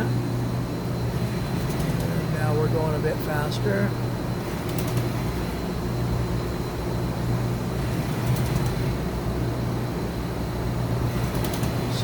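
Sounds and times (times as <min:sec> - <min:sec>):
machine axis drive humming: 0:00.0 - 0:12.0.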